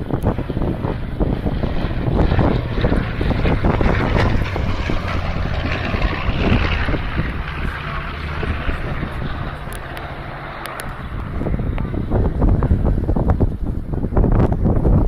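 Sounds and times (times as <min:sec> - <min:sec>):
propeller aircraft engine running: 0:00.0 - 0:15.0.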